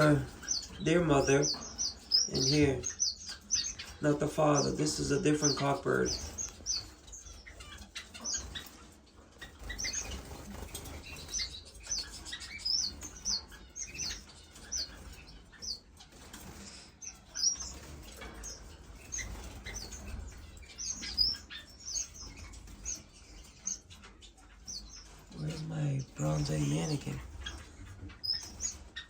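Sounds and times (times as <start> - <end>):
finches chirping: 0.0 - 29.0
wings fluttering: 0.0 - 29.0.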